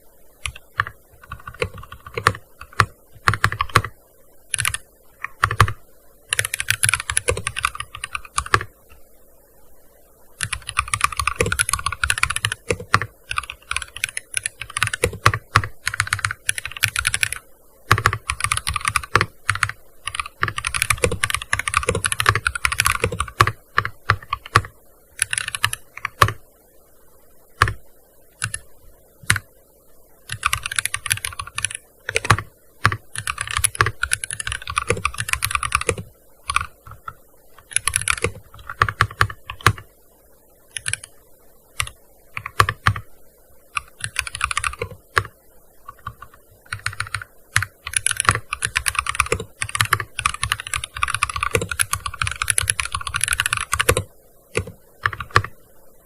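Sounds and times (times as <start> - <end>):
keyboard typing: 0.4 - 9.0, 10.4 - 26.4, 27.6 - 27.8, 28.4 - 29.5, 30.3 - 39.9, 40.7 - 43.1, 43.8 - 55.6.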